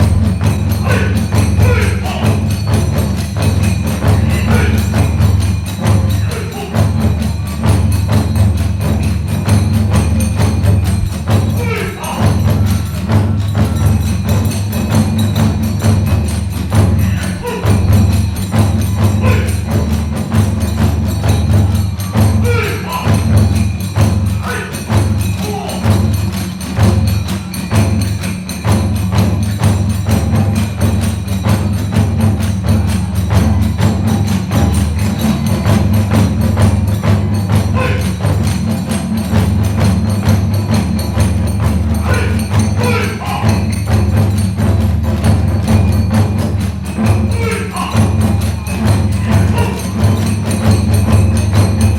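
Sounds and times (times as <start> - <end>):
hand cymbals clashing: 0.0 - 51.9
taiko drums beating: 0.0 - 51.9.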